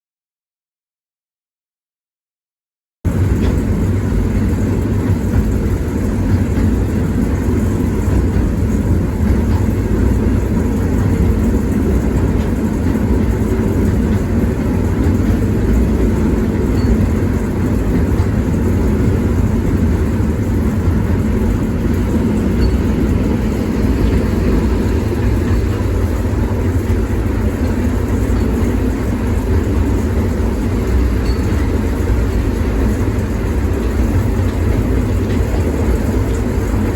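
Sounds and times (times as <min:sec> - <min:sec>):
diesel engine rumble: 0:03.1 - 0:36.9.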